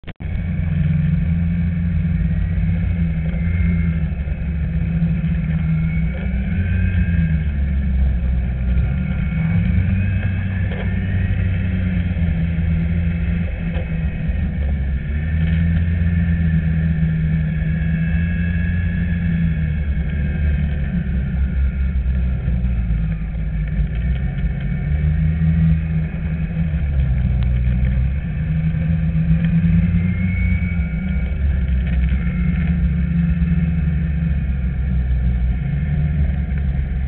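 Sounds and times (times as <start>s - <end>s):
high whine changing pitch: 0.0s - 37.0s
snowmobile engine running: 0.0s - 37.0s.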